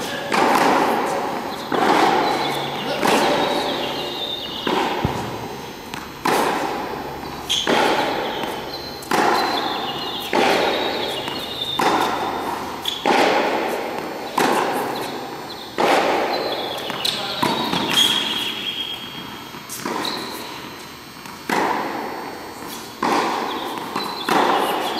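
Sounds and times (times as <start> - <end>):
tennis racket hitting ball: 0.0 - 24.9.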